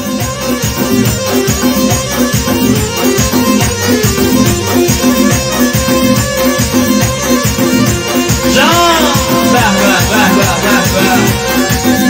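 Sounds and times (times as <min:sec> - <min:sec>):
fast drum beat: 0:00.0 - 0:12.0
melody instruments: 0:00.0 - 0:12.0.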